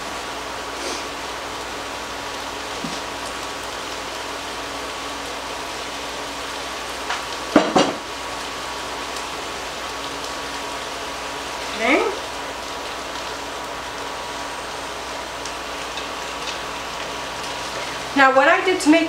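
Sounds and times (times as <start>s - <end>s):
vegetables sizzling in a pot: 0.0s - 19.0s.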